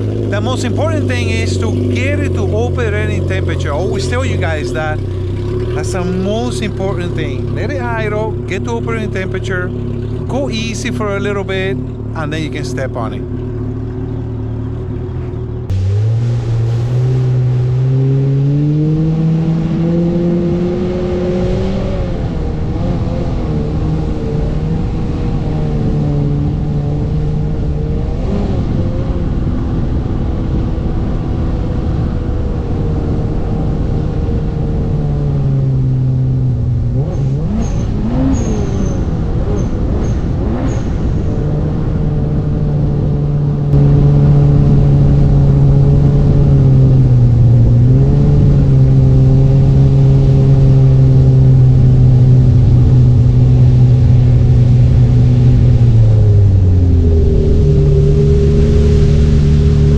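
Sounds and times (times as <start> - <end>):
personal watercraft engine running: 0.0 - 59.9.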